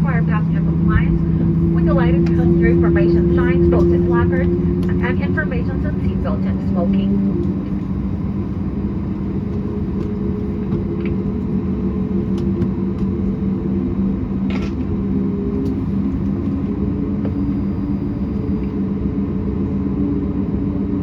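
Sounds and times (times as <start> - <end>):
airplane cabin hum: 0.0 - 21.0
droning engine tones: 0.0 - 21.0.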